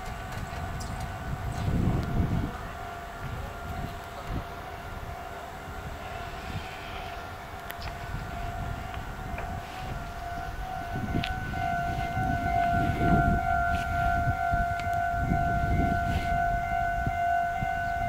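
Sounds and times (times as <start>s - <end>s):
high-pitched train whine: 0.0s - 18.0s
train rumble: 0.0s - 18.0s.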